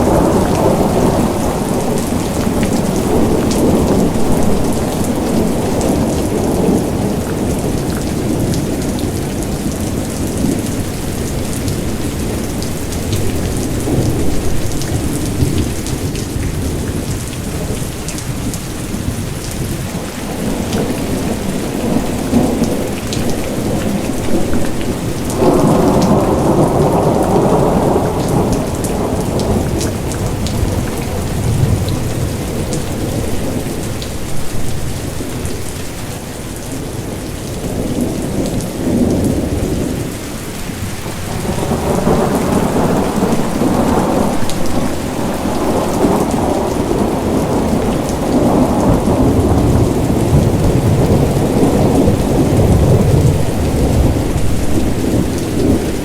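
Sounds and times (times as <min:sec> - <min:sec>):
rolling thunder: 0:00.0 - 0:35.7, 0:37.0 - 0:56.0
rain hissing: 0:00.0 - 0:37.2, 0:37.8 - 0:56.0.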